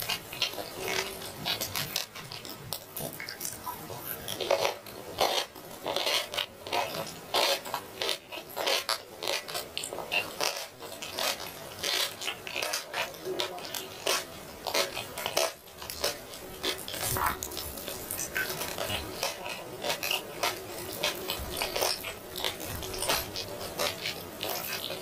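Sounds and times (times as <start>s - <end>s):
person chewing: 0.0s - 25.0s.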